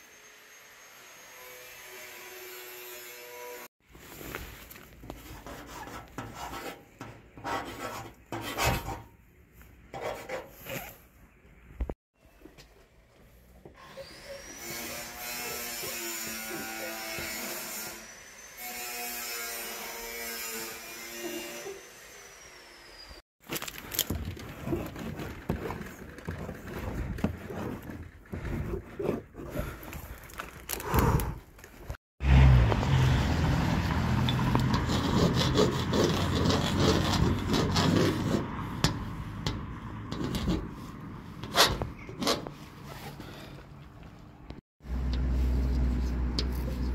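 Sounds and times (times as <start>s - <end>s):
outdoor background noise: 0.0s - 46.9s.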